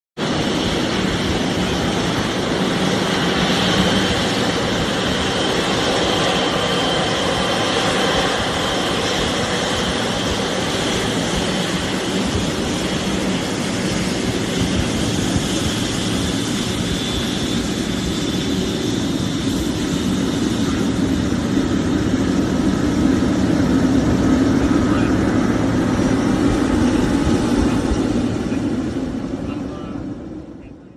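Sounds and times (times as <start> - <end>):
jet engines idling: 0.2 - 30.9.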